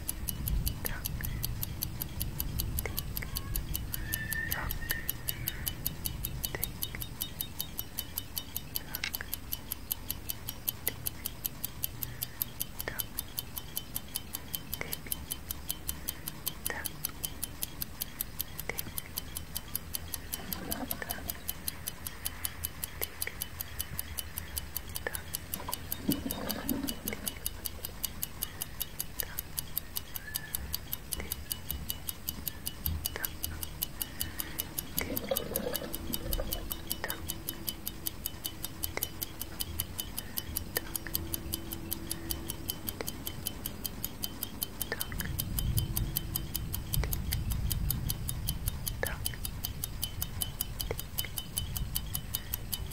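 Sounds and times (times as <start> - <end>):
clock ticking: 0.0 - 52.9.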